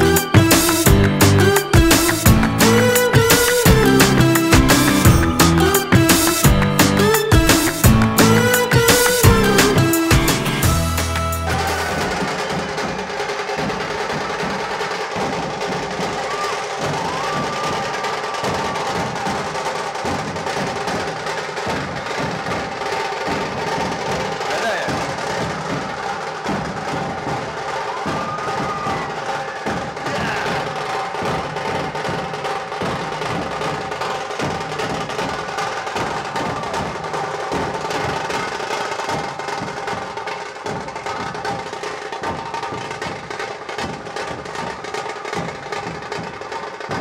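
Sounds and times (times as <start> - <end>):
steady drum beat: 0.0 - 47.0.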